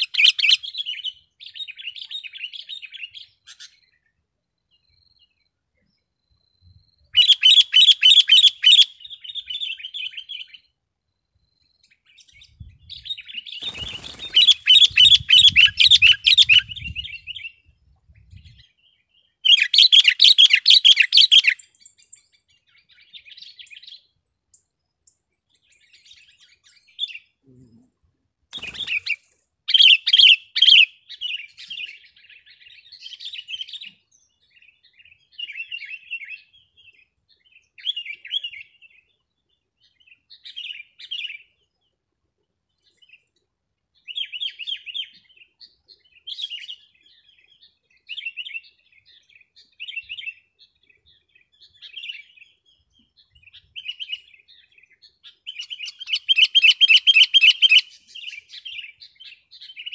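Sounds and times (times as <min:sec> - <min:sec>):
bulbul rapid chirping song: 0:00.0 - 0:04.0, 0:06.6 - 0:10.7, 0:11.7 - 0:27.8, 0:28.5 - 0:39.1, 0:44.0 - 0:59.9.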